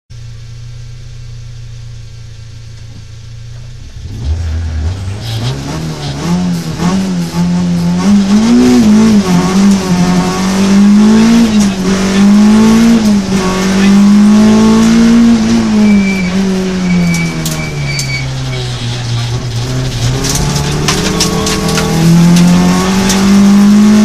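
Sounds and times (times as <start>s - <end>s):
rally car engine revving and accelerating: 3.8s - 24.0s.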